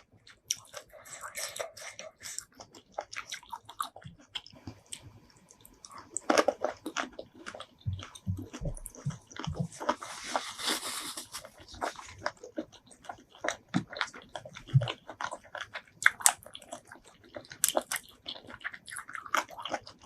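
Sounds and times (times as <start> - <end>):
wet biting and chewing: 0.0 - 20.0.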